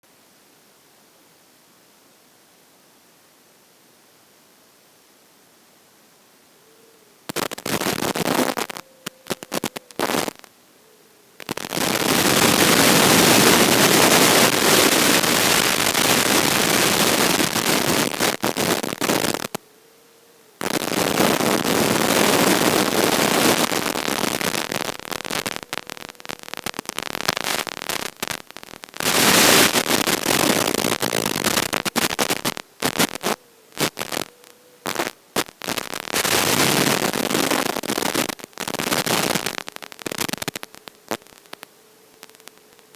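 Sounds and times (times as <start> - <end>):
crackling radio static hiss: 0.0 - 42.9.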